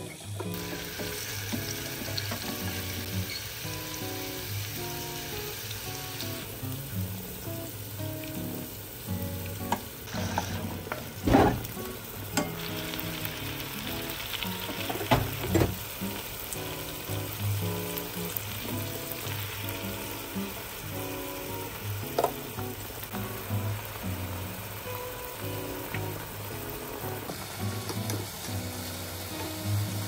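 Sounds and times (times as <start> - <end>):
sauce sizzling in a frying pan: 0.0 - 30.0
soft background music: 0.0 - 30.0.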